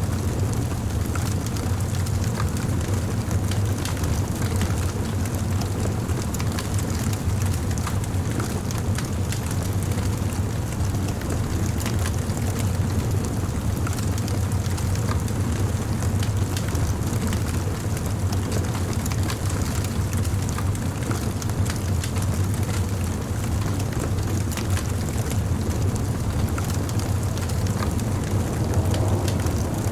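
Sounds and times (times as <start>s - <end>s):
low rumble of fire: 0.0s - 29.9s
campfire crackling and popping: 0.1s - 29.9s.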